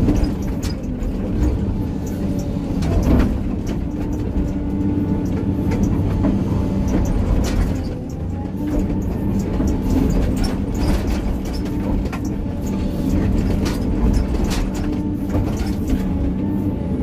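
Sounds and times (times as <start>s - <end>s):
knocks and clanks: 0.0s - 16.2s
diesel engine running: 0.0s - 17.0s.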